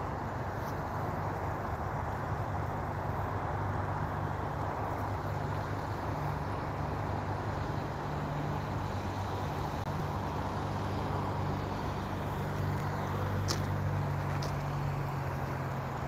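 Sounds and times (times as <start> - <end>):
car engine idling: 0.0 - 16.0
outdoor traffic noise: 0.0 - 16.0.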